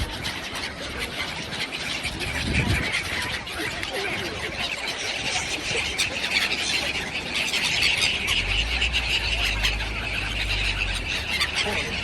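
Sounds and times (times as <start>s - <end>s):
flock of birds chattering: 0.0s - 12.0s.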